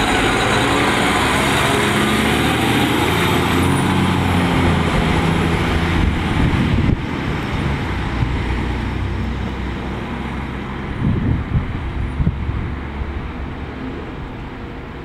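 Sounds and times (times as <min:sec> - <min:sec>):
fire engine running: 0:00.0 - 0:15.0
road noise: 0:00.0 - 0:15.0.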